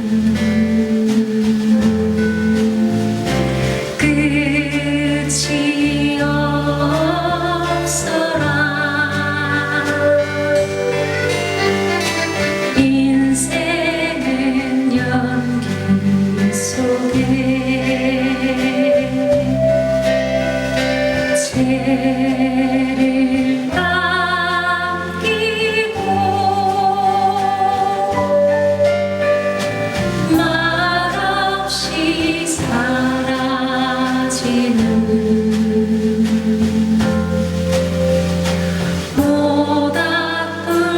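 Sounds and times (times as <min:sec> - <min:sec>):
woman singing folk song: 0:00.0 - 0:28.8, 0:30.2 - 0:40.9
instrumental accompaniment: 0:00.0 - 0:40.9.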